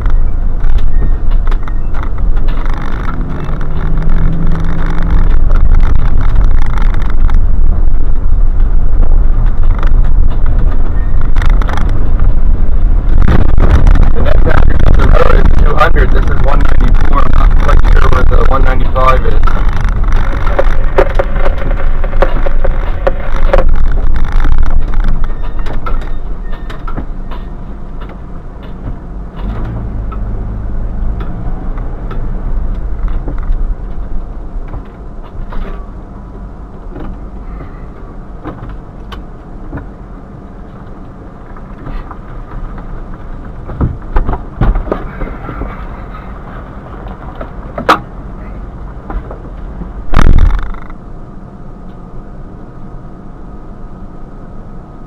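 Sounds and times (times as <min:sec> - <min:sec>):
sharp clicks and knocks: 0:00.0 - 0:37.8, 0:38.4 - 0:40.0, 0:40.6 - 0:48.2, 0:49.0 - 0:51.0
car engine and road rumble: 0:00.0 - 0:55.0
low engine hum: 0:00.0 - 0:55.0.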